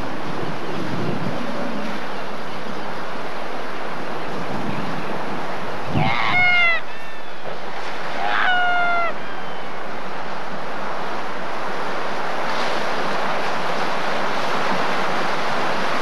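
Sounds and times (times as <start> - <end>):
surf: 0.0 - 16.0
wind: 0.0 - 16.0.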